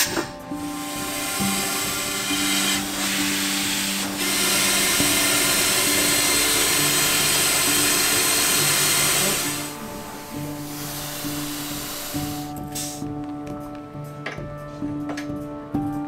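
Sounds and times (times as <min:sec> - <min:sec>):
machine whirring and hissing: 0:00.0 - 0:13.0
low music notes: 0:00.0 - 0:16.0.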